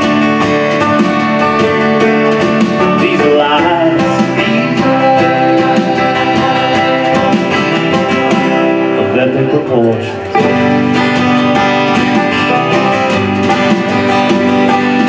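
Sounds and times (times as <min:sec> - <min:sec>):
drum kit with cymbals: 0:00.0 - 0:09.0, 0:10.1 - 0:15.0
acoustic guitar: 0:00.0 - 0:15.0
banjo: 0:00.0 - 0:15.0.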